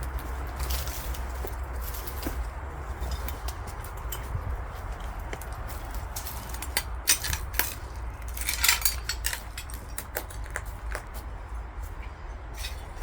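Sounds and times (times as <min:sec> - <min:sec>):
crunching and clinking clicks: 0:00.2 - 0:11.3.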